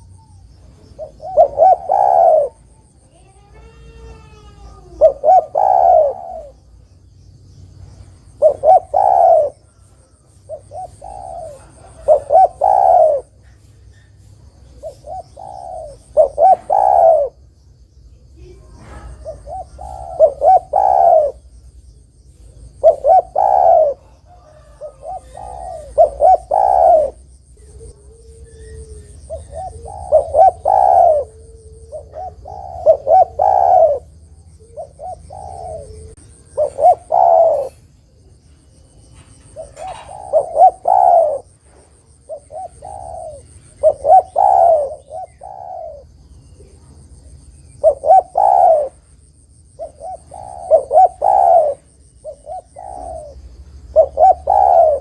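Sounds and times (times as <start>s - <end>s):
dove cooing: 0.0s - 6.9s, 8.2s - 17.5s, 18.4s - 21.7s, 22.3s - 55.0s.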